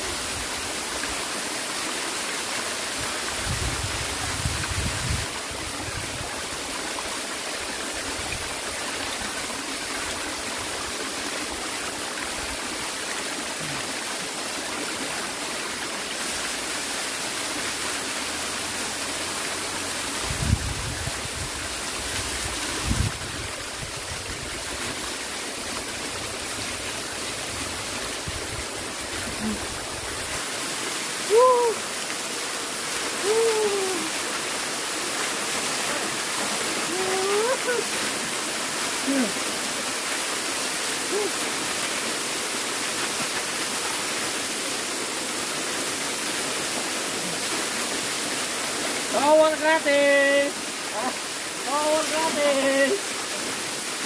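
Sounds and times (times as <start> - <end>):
waterfall pouring onto rock: 0.0 - 54.0.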